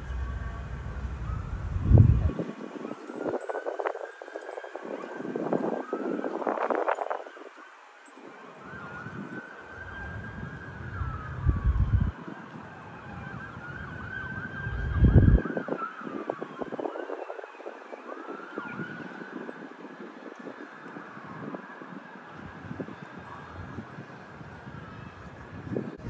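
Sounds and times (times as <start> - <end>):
siren wailing: 0.0 - 26.0
wind rumble on microphone: 0.0 - 26.0.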